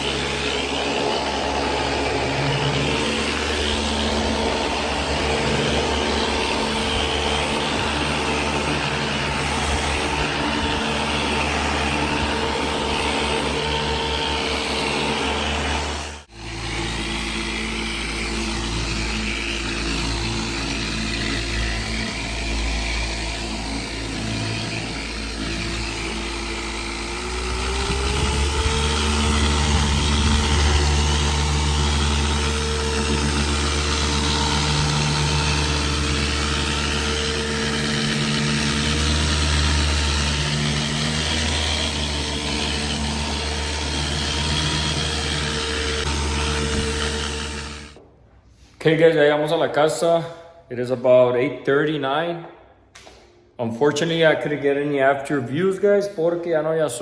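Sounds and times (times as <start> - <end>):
deeper hum: 0.0 - 48.0
steady mechanical hum: 0.0 - 48.1.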